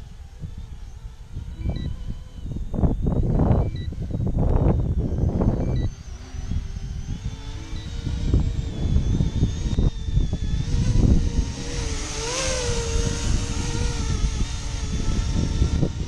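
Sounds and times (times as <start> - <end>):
model aircraft propellers whining: 0.0 - 16.0
wind buffeting microphone: 0.0 - 16.0.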